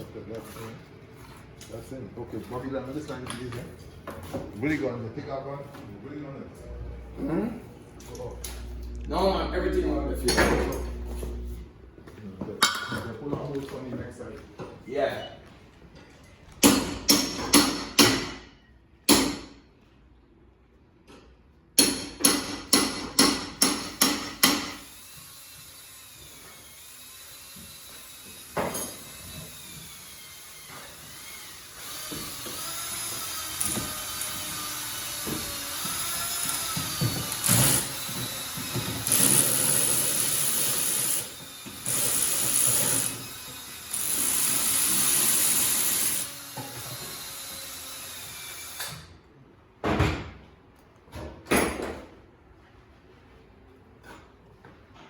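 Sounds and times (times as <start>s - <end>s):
workshop noise: 0.0s - 55.0s.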